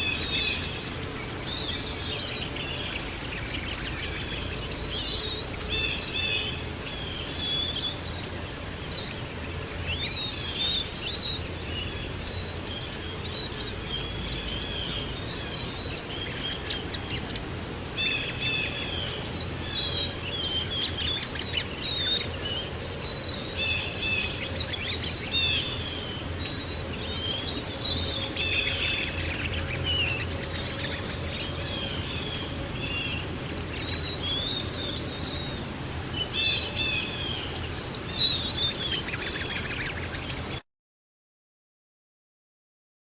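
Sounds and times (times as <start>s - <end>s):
songbirds chirping and trilling: 0.0s - 40.6s.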